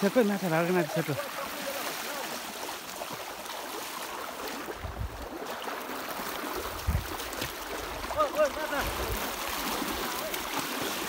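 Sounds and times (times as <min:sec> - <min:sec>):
river water rushing over stones: 0:00.0 - 0:11.0.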